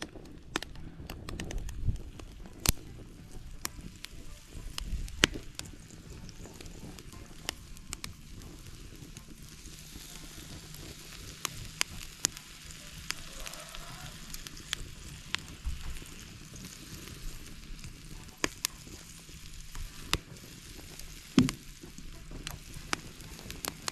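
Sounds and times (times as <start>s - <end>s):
oil popping and crackling: 0.0s - 23.9s
clam meat sizzling in a pan: 2.0s - 23.9s.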